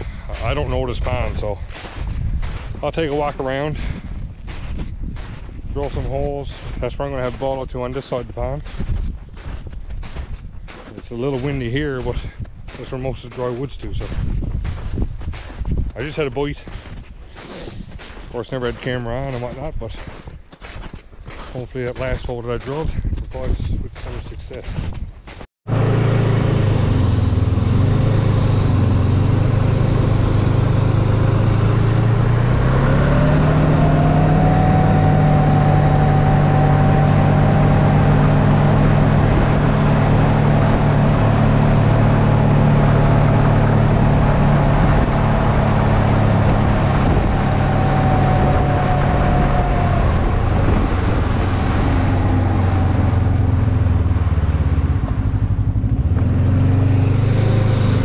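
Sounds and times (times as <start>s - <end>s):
snowmobile engine running: 0.0s - 20.2s, 25.7s - 58.0s.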